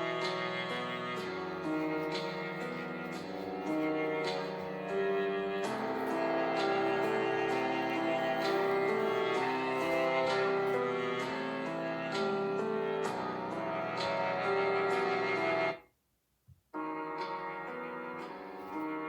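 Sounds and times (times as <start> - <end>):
keyboard music with ticking beat: 0.0 - 15.8, 16.8 - 19.0.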